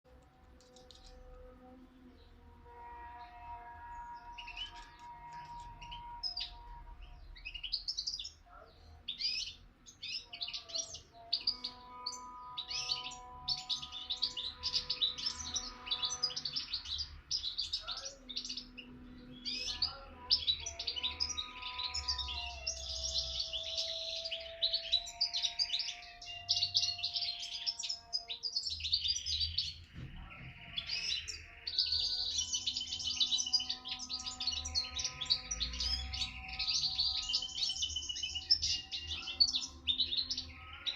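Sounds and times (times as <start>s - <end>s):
songbird twittering: 4.0s - 40.9s.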